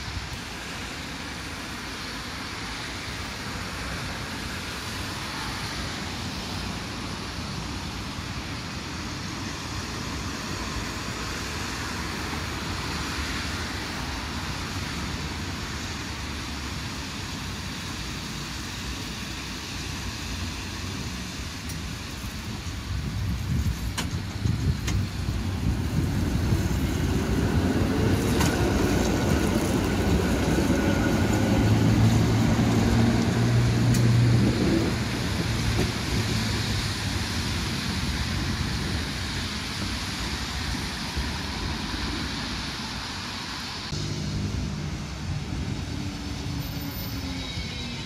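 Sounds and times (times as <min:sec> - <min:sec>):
vehicles rumbling and hissing: 0:00.0 - 0:48.0.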